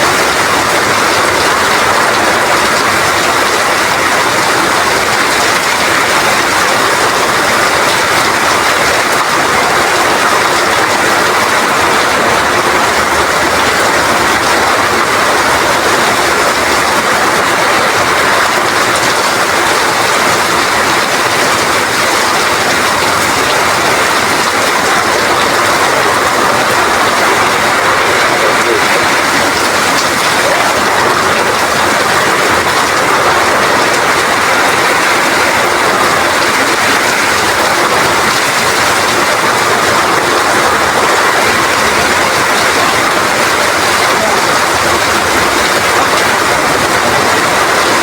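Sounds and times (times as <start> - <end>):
heavy rain falling: 0.0 - 48.0.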